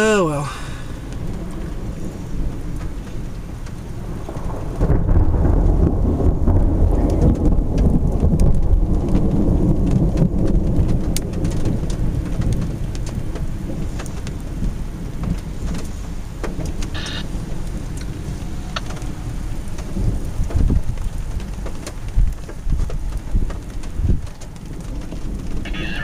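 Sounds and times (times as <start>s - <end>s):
rain: 0.0s - 26.0s
thunder rumbling low: 0.5s - 26.0s
raindrop ticks: 0.9s - 26.0s.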